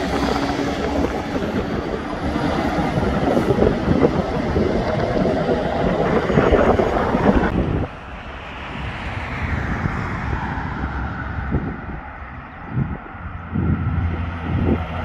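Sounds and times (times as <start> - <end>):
passing road traffic: 0.0 - 15.0
wind on microphone: 0.0 - 15.0.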